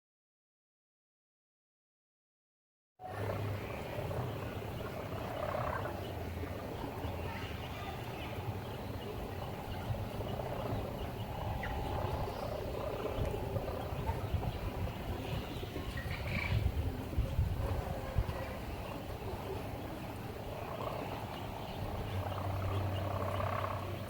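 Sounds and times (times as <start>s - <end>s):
kite hummer droning in wind: 3.0s - 24.0s.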